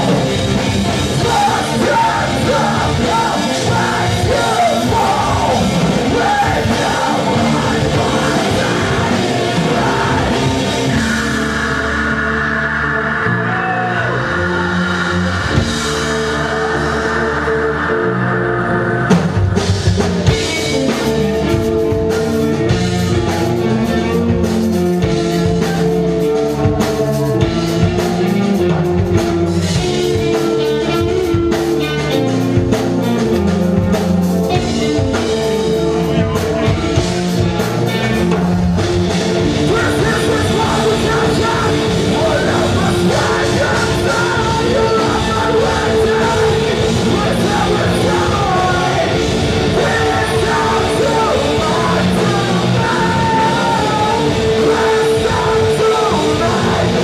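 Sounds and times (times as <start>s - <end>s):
drum kit fast beat: 0.0s - 12.7s, 13.6s - 57.0s
bass guitar: 0.0s - 57.0s
distorted electric guitars: 0.0s - 57.0s
vocals: 0.0s - 57.0s.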